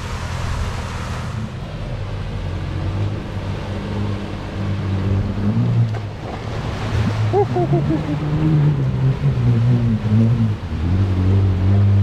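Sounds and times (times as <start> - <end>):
vehicle engine revving under load: 0.0 - 12.0.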